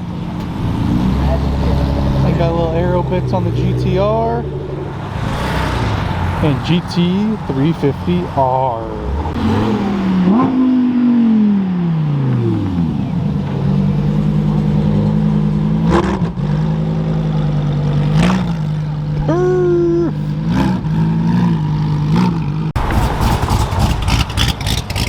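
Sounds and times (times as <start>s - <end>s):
car engine running: 0.0s - 25.0s
engine throttle blips: 0.0s - 25.0s.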